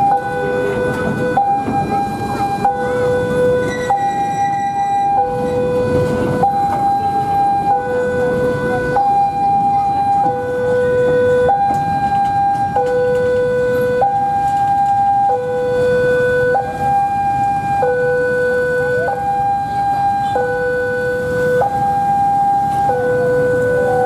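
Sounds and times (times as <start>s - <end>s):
level crossing two-tone alarm: 0.0s - 24.0s
street and traffic noise: 0.0s - 24.0s.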